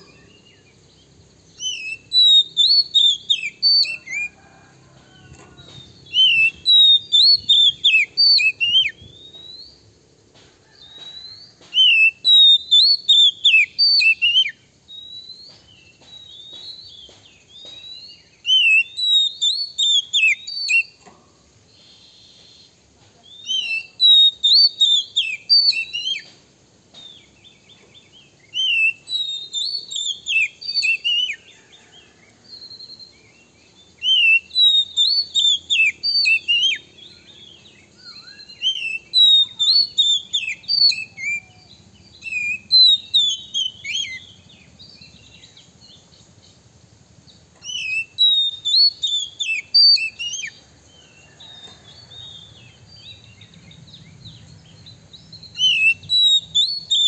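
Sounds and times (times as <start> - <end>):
bird singing whistled notes: 0.0 - 9.9, 10.7 - 21.1, 21.7 - 46.6, 47.3 - 57.0.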